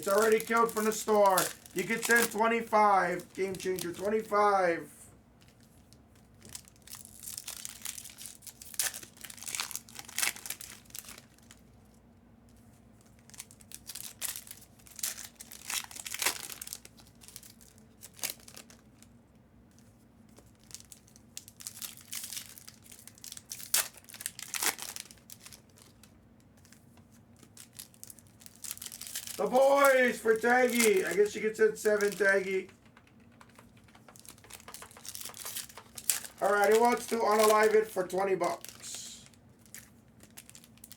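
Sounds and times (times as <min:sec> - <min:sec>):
plastic packaging crinkling: 0:00.0 - 0:04.8, 0:05.4 - 0:11.8, 0:13.0 - 0:19.1, 0:20.3 - 0:40.9.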